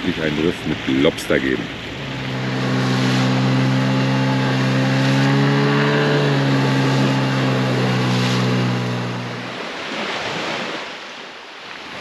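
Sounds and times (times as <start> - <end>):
outboard motor humming: 0.0 - 11.0
water rush: 0.0 - 12.0.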